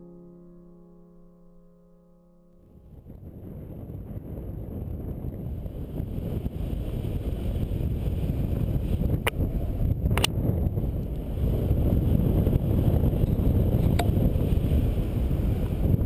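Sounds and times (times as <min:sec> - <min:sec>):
wind rushing over microphone: 0:02.7 - 0:16.0.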